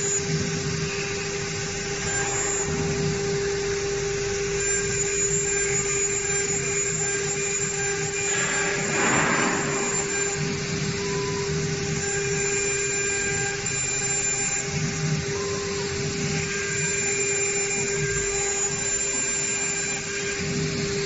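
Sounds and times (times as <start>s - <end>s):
router spindle whining: 0.0s - 21.0s.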